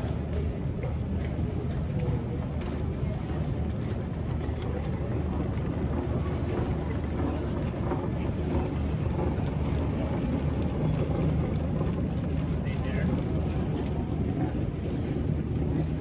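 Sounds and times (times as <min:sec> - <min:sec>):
low rumbling terminal hum: 0:00.0 - 0:16.0.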